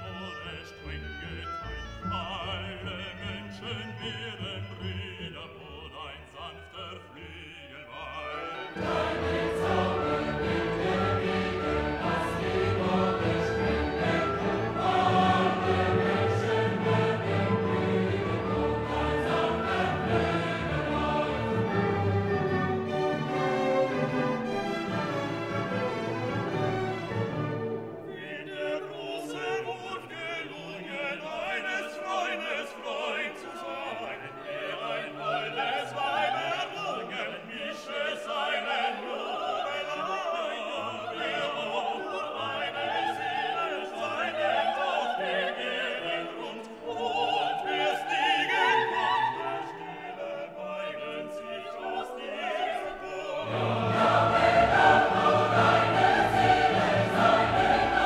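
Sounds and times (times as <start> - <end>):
orchestral accompaniment: 0.0 - 37.0, 37.9 - 58.0
vocal group singing folk song: 2.2 - 23.4, 28.0 - 58.0.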